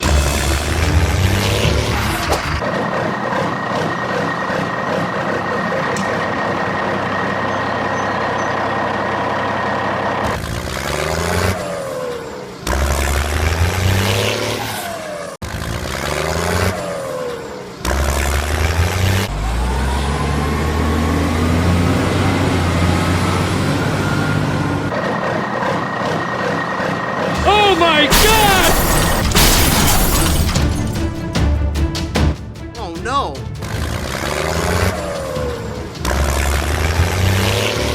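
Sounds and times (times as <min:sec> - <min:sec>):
truck engine revving: 0:00.0 - 0:32.6, 0:33.2 - 0:37.9.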